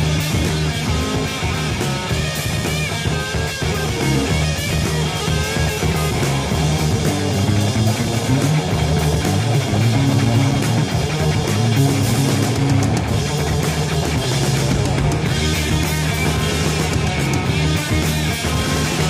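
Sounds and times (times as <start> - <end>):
heavy rock instrumental: 0.0 - 19.0.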